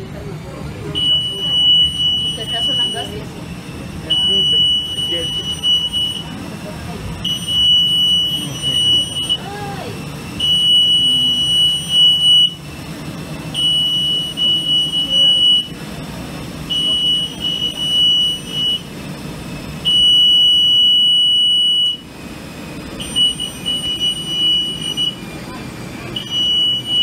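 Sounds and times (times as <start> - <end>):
electronic warning buzzer: 0.9 - 27.0.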